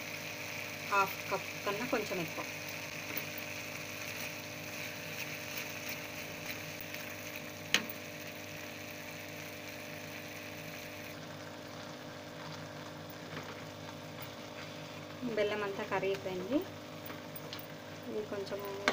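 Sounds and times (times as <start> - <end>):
food sizzling in clay pot: 0.0 - 18.9.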